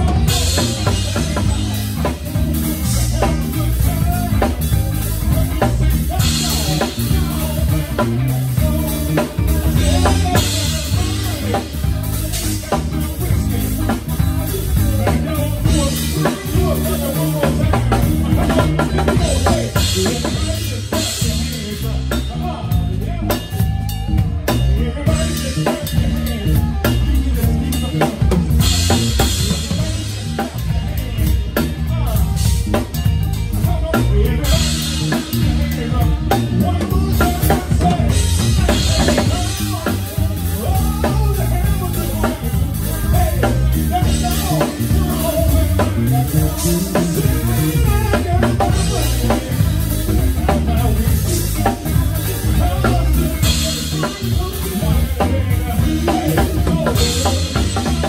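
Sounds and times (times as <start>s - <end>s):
bass drum and snare: 0.0s - 58.0s
bass line: 0.0s - 58.0s
live band playing: 0.0s - 58.0s.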